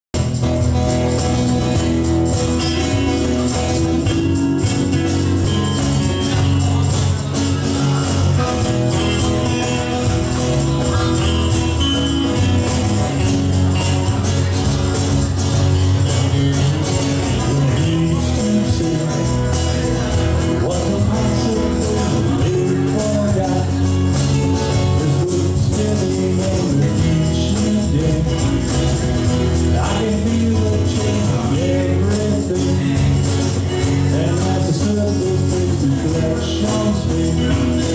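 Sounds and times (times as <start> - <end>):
electric bass: 0.1 - 37.9
strummed acoustic guitars: 0.1 - 37.9.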